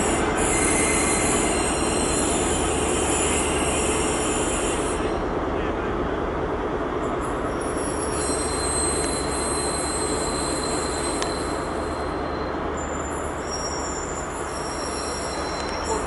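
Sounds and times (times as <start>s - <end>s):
high-pitched squeal: 0.0s - 5.2s, 7.5s - 16.0s
diesel train engine: 0.0s - 16.0s
wheels rumbling on rail: 0.0s - 16.0s.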